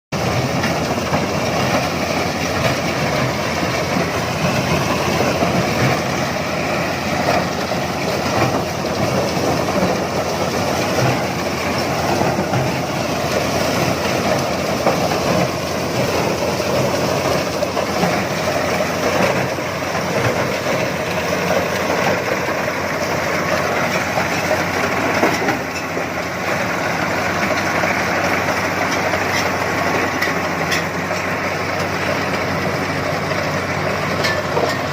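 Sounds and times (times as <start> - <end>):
harvesting machine droning: 0.2 - 34.9.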